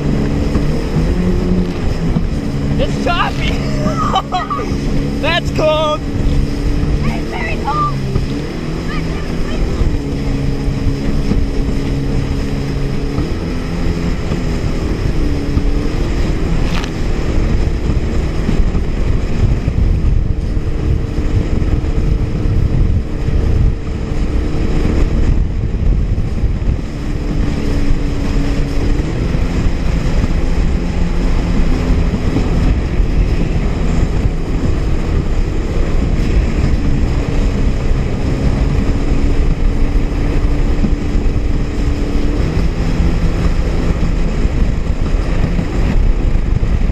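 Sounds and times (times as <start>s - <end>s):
jet ski engine running: 0.0s - 46.9s
rushing water: 0.0s - 46.9s
wind noise on microphone: 0.0s - 46.9s.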